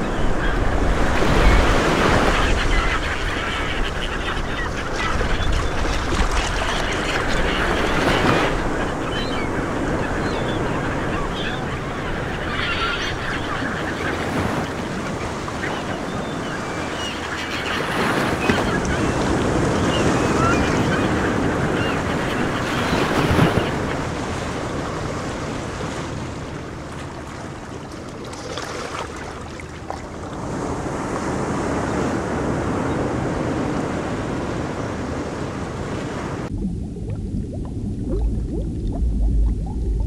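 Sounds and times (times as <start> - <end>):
ocean waves: 0.0 - 36.6.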